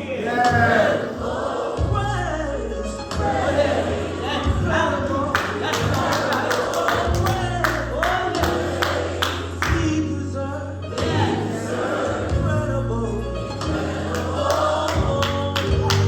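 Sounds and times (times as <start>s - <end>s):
gospel choir with band: 0.0s - 16.0s.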